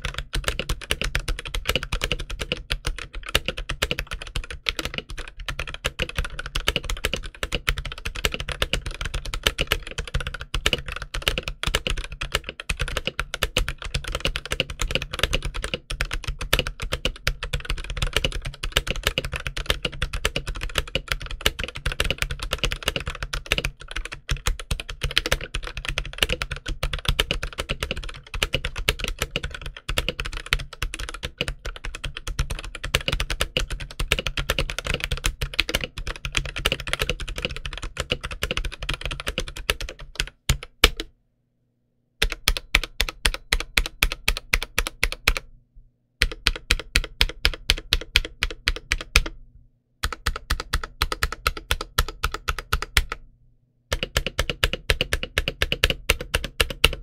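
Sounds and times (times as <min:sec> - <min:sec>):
fast mechanical keyboard typing: 0:00.0 - 0:41.1, 0:42.2 - 0:45.5, 0:46.2 - 0:49.4, 0:50.0 - 0:53.2, 0:53.9 - 0:57.0.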